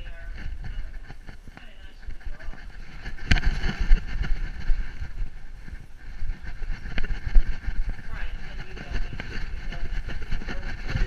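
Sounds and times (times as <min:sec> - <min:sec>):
camera thumping and rubbing: 0:00.0 - 0:11.0.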